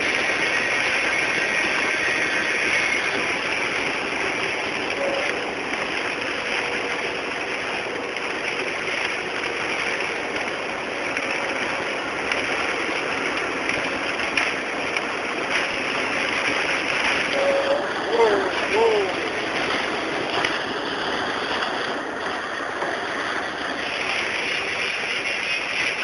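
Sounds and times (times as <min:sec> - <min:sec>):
heavy rain and hail hissing: 0:00.0 - 0:26.0.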